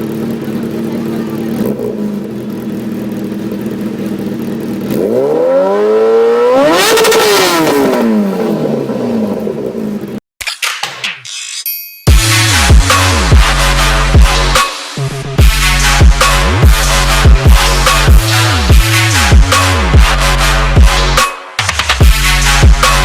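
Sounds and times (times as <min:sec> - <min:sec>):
steady engine drone: 0:00.0 - 0:10.2, 0:12.1 - 0:21.2.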